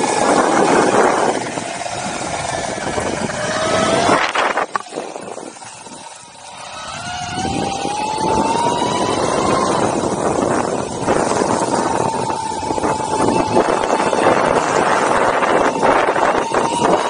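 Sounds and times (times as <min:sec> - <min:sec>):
electric skateboard motors whining: 0:00.0 - 0:17.0
wheels and wind rushing on wet road: 0:00.0 - 0:17.0.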